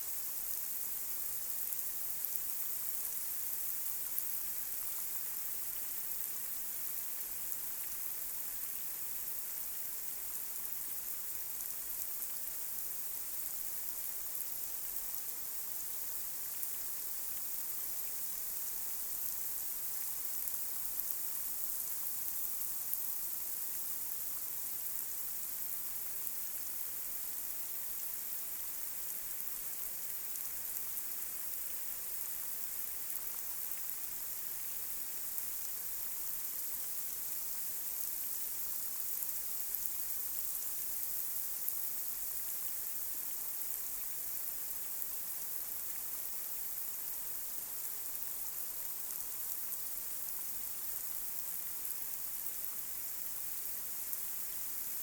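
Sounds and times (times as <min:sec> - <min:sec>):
light rain hissing: 0:00.0 - 0:55.0.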